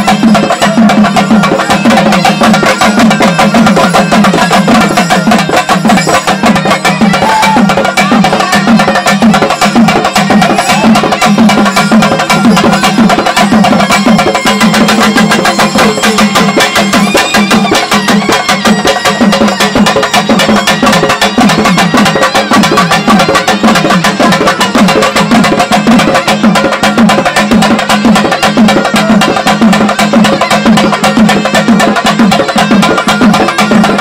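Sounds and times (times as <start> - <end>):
clattering percussion: 0.0 - 34.0
fast loud drumming: 0.0 - 34.0.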